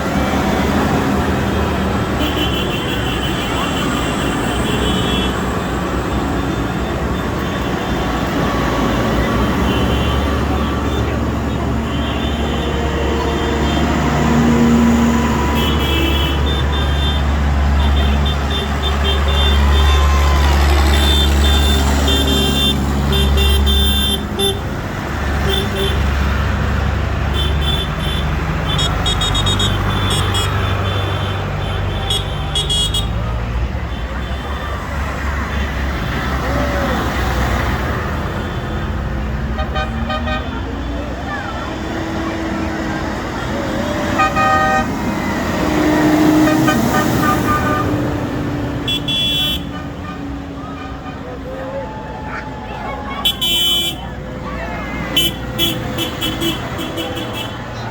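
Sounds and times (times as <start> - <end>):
horn tooting: 0.0 - 26.5, 27.2 - 57.9
tractor engines rumbling: 0.0 - 57.9.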